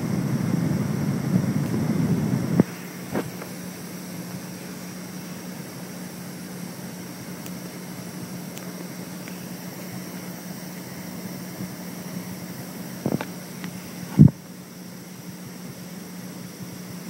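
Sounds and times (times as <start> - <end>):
boat engine humming: 0.0 - 14.3
noisy hiss: 0.0 - 17.0.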